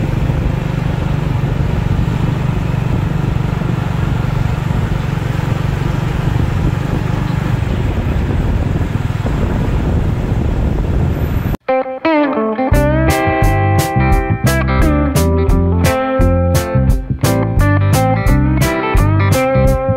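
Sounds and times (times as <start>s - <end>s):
motorcycle engine running: 0.0s - 11.6s, 12.8s - 19.9s.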